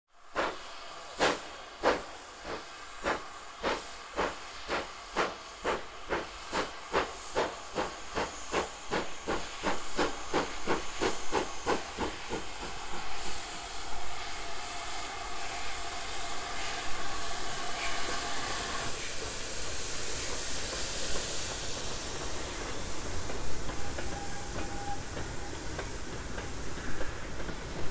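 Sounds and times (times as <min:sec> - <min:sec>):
steam hissing: 0:00.2 - 0:27.9
steam locomotive exhaust beats: 0:00.2 - 0:27.9.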